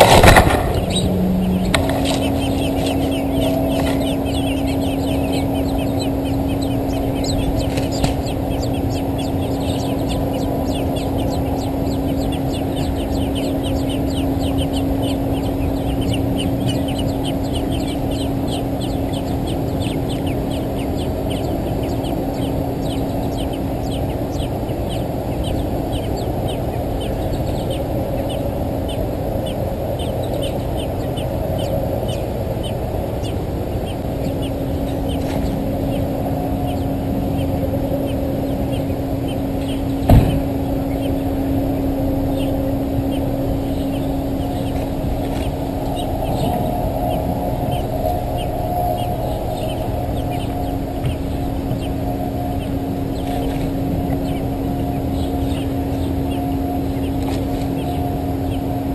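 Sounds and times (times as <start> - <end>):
low hum and rushing noise: 0.0 - 58.9
nestlings cheeping: 0.0 - 58.9.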